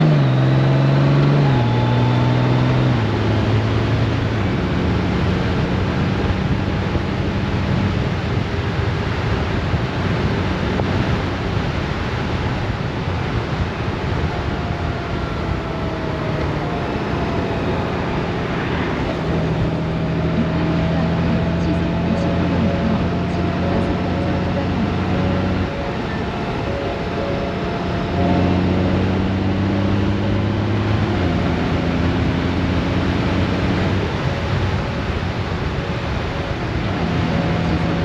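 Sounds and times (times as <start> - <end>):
motorcycle engine under way: 0.0 - 12.7, 13.3 - 38.0
heavy wind and road noise: 0.0 - 38.0.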